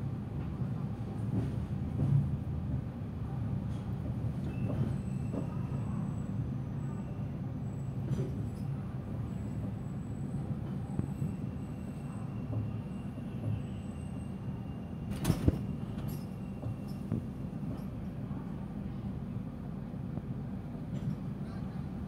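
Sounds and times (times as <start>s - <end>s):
train coach rumbling: 0.0s - 22.0s.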